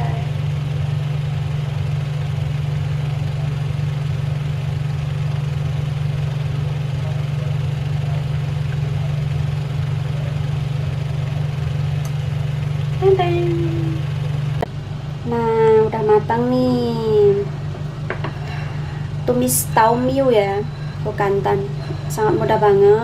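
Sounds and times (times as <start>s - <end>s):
kitchen fan motor humming: 0.0s - 23.0s.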